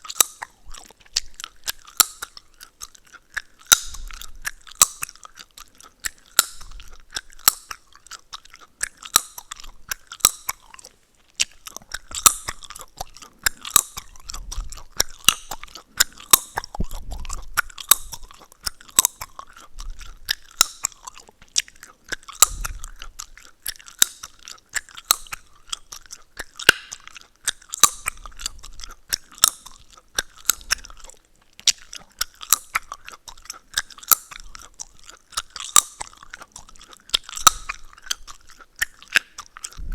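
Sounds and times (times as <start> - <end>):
gum chewing with wet smacking: 0.0 - 39.9
gum cracking pops: 0.0 - 39.9.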